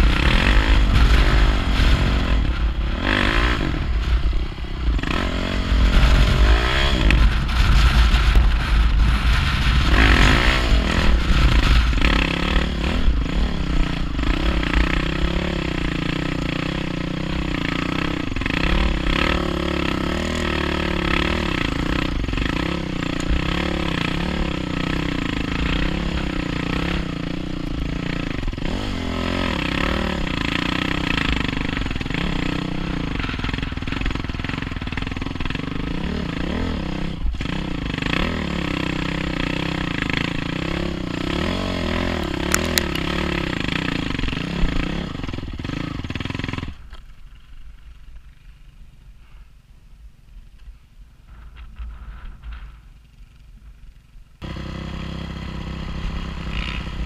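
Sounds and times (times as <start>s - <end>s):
dirt bike engine revving: 0.0s - 46.9s, 54.4s - 57.0s
heavy low rumble: 0.0s - 57.0s.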